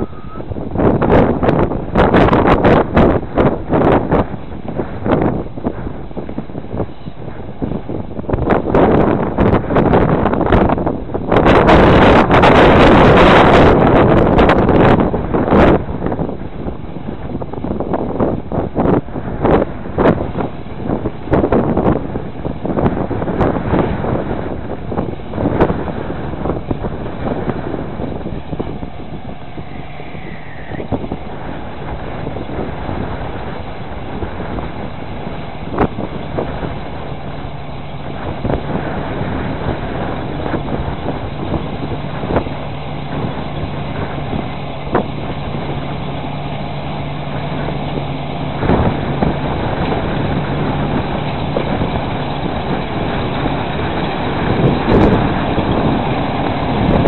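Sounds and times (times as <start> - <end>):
combine harvester running: 0.0 - 57.0
low hum: 0.0 - 57.0.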